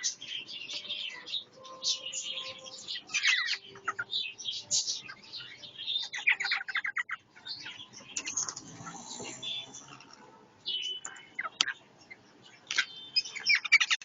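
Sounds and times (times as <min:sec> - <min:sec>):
parrots calling and chattering: 0:00.0 - 0:14.0.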